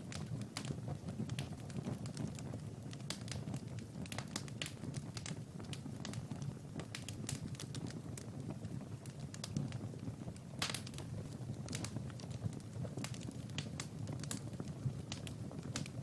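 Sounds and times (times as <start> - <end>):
low rumble of flames: 0.0 - 16.0
wood fire snapping and popping: 0.0 - 16.0.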